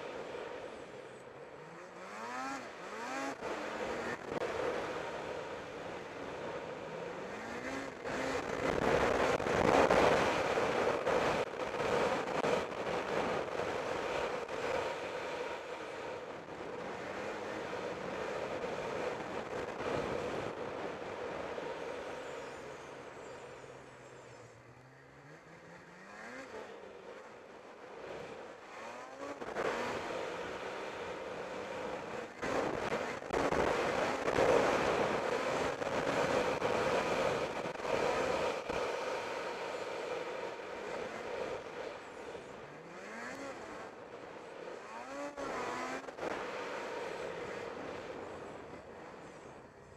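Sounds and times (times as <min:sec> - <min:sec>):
rushing track and wind noise: 0:00.0 - 0:49.9
snowmobile engine running: 0:01.6 - 0:23.3, 0:27.4 - 0:44.1, 0:44.8 - 0:48.6.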